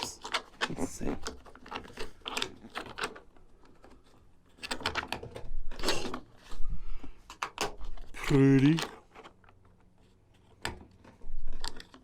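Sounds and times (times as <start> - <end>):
plastic scrape: 0.0 - 12.0.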